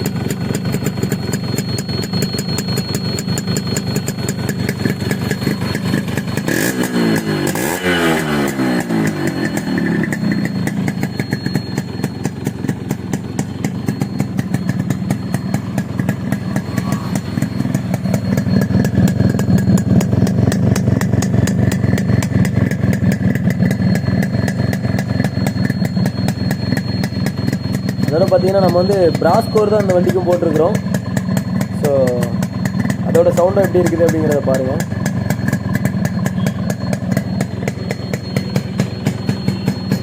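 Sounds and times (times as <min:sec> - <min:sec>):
two-stroke motorcycle engine idling: 0:00.0 - 0:40.0.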